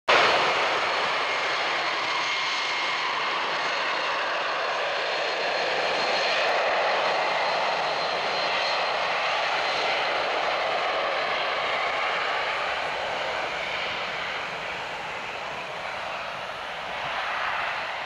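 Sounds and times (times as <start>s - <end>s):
jet engine roar: 0.1s - 18.0s.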